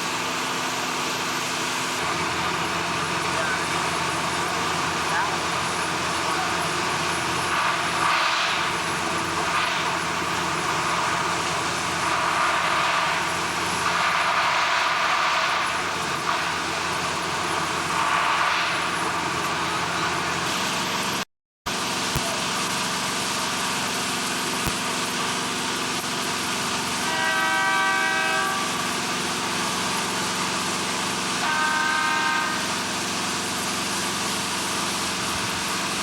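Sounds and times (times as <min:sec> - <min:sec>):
industrial machinery hiss: 0:00.0 - 0:36.0.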